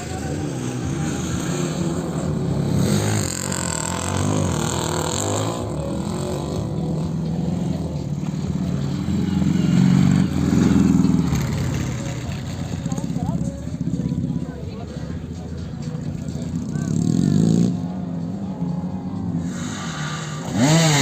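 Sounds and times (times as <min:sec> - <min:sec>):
motocross engines revving: 0:00.0 - 0:14.4, 0:15.1 - 0:21.0.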